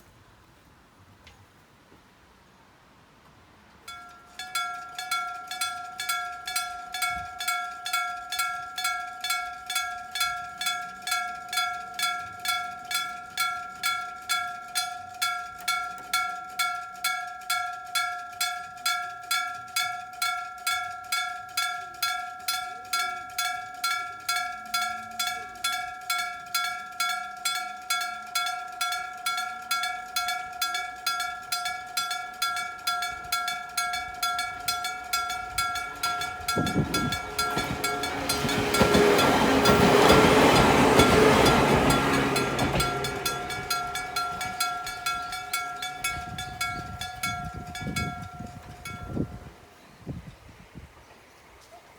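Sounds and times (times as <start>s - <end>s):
level crossing warning bell ringing: 3.9s - 49.6s.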